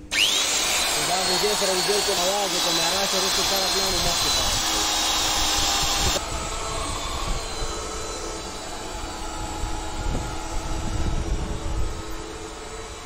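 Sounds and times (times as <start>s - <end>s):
electric drill boring into steel: 0.0s - 13.0s
mechanical hum: 0.0s - 13.0s.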